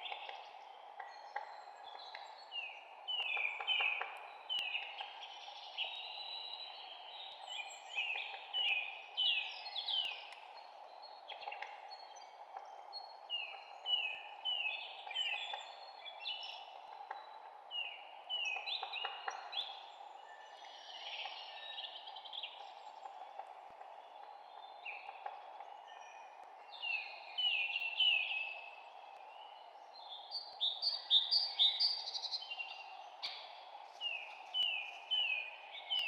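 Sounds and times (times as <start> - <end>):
songbirds chirping: 0.0 - 36.0.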